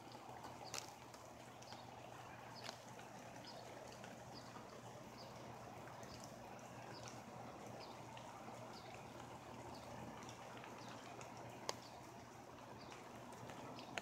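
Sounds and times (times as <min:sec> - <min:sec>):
light rain hiss: 0:00.0 - 0:14.0
rain drips and patters: 0:00.0 - 0:14.0.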